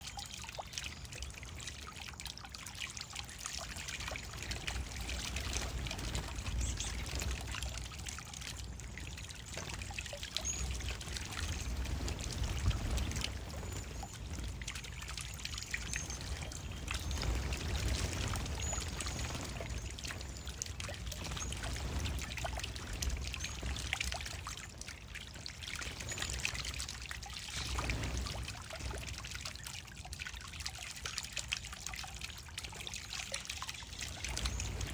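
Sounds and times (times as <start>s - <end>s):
water splashing in bird bath: 0.0s - 34.9s.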